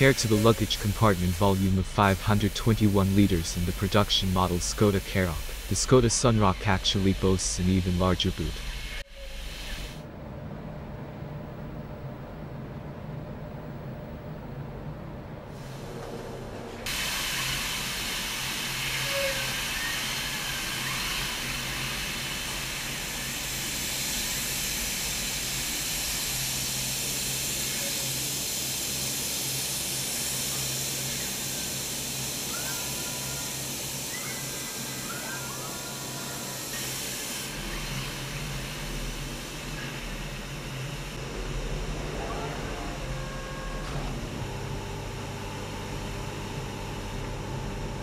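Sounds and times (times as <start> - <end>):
workshop equipment hiss: 0.0 - 10.1, 15.5 - 48.0.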